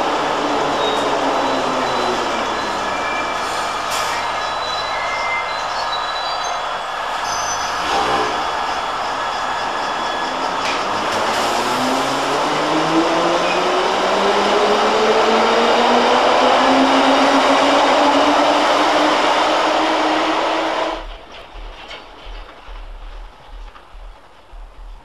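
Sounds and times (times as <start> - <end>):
train traction motor whine: 0.0 - 21.1
loud wheel and rail noise: 0.0 - 25.0.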